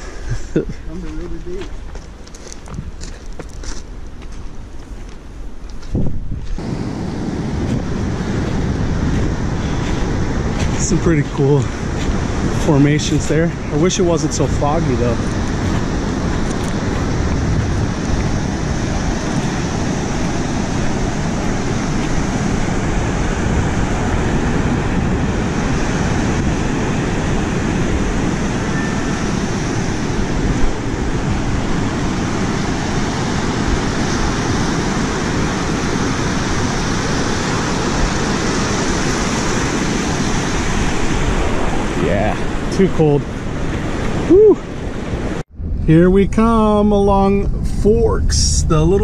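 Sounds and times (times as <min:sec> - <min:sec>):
wind buffeting microphone: 0:00.0 - 0:49.0
surf breaking on beach: 0:06.6 - 0:49.0.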